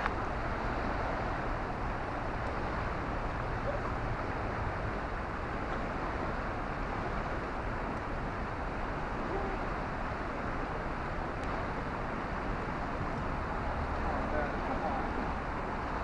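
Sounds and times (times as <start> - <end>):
fast-running water rushing: 0.0 - 16.0.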